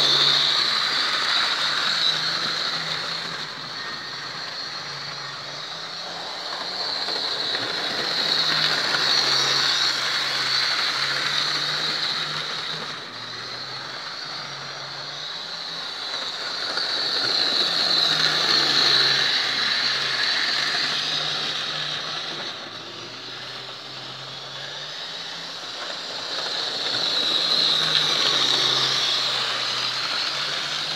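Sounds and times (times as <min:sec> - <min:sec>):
model train motor hum: 0:00.0 - 0:30.9
wheels rattling on track: 0:00.0 - 0:30.9.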